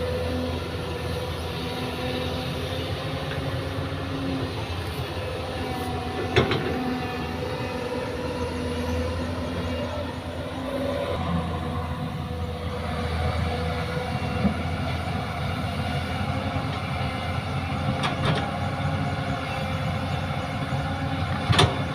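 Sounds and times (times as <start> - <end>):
diesel machinery droning: 0.0 - 21.9.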